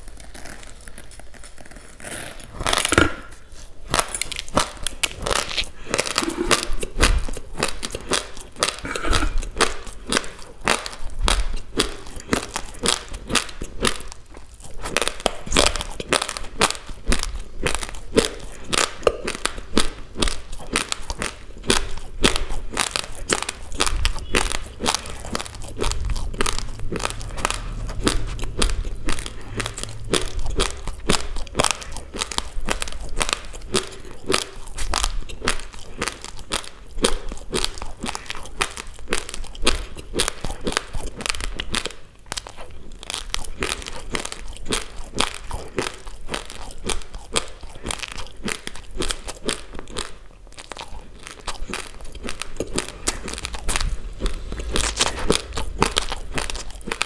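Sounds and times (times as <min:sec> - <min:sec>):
chewing crunchy raw rice: 0:00.0 - 0:57.0.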